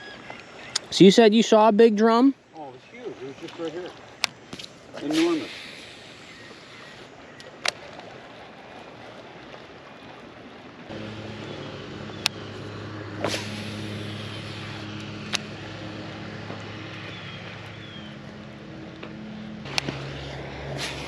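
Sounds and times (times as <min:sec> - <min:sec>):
engine low drone: 0:02.4 - 0:21.0.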